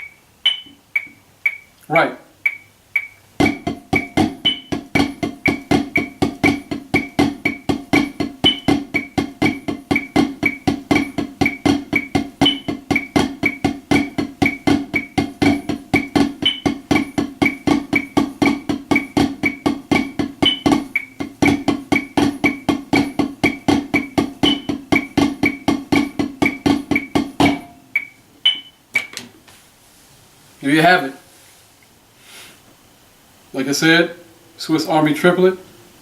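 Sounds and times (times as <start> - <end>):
metronome clicking: 0.0 - 29.3.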